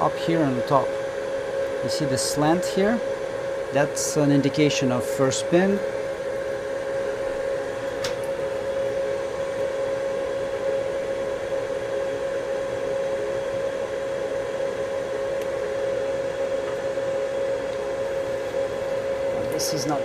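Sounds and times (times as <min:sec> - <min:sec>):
blower hum: 0:00.0 - 0:20.0.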